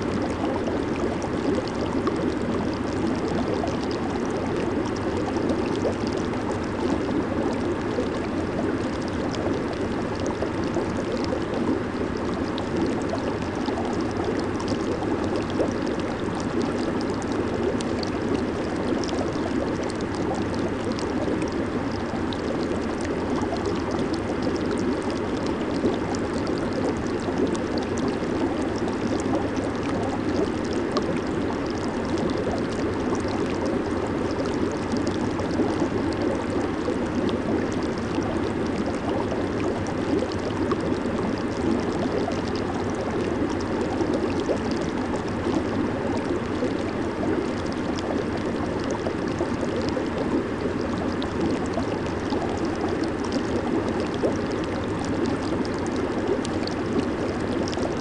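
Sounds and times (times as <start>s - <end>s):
jacuzzi water bubbling: 0.0s - 58.0s.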